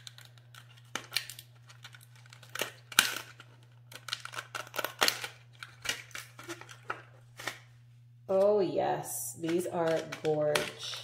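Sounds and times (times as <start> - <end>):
plastic case clicking and crackling: 0.0 - 7.7, 9.4 - 11.0.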